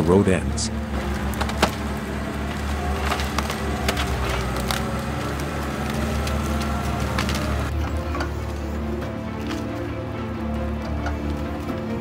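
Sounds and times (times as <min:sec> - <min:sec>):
branches cracking and snapping: 0:00.0 - 0:12.0
diesel engine running: 0:00.0 - 0:12.0.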